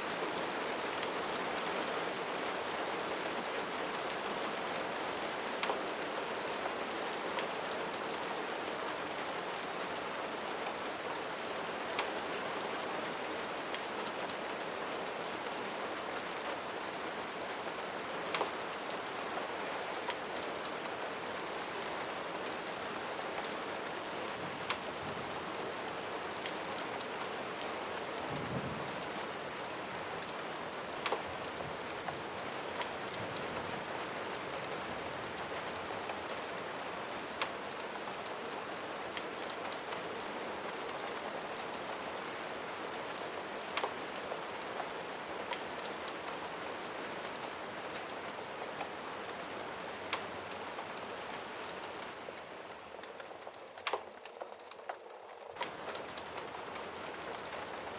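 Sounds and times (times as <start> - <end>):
dense rain hiss: 0.0 - 57.9.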